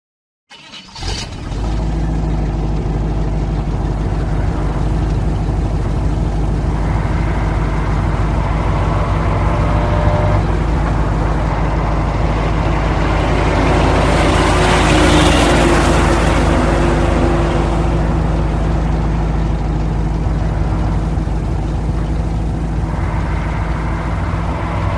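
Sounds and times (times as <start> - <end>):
truck engine droning: 0.6 - 24.9
rushing noise: 3.4 - 24.9.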